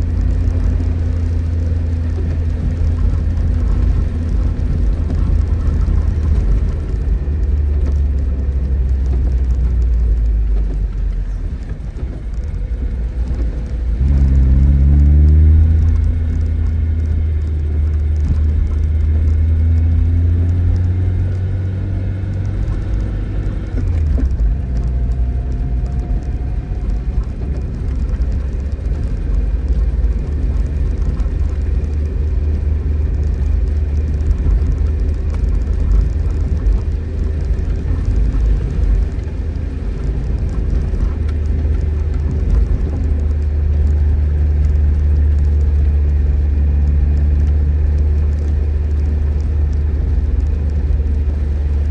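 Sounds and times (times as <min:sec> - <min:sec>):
car engine running: 0:00.0 - 0:51.9
rain hiss: 0:00.0 - 0:51.9.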